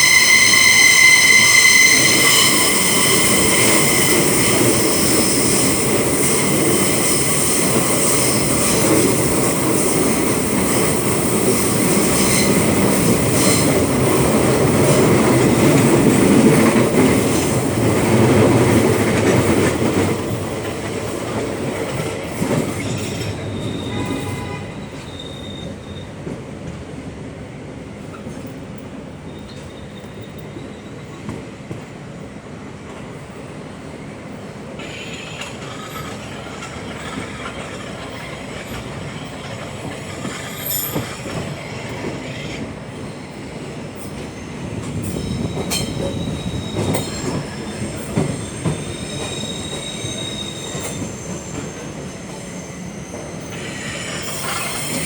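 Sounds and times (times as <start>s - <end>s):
train wheel squeal: 0.0s - 21.2s, 21.9s - 26.4s, 29.2s - 31.6s, 34.6s - 55.0s
train ride rumble: 0.0s - 55.0s.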